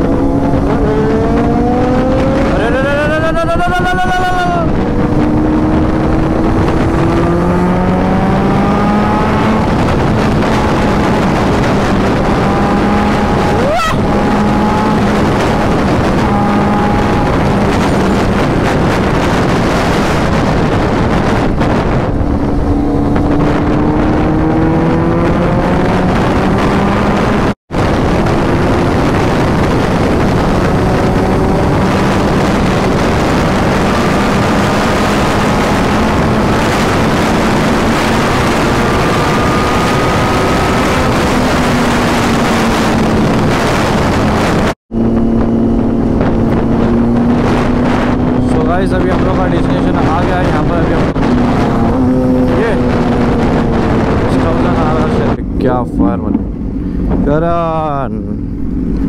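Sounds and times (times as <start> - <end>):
heavy wind rush: 0.0 - 59.0
motorcycle engine accelerating hard: 0.0 - 59.0.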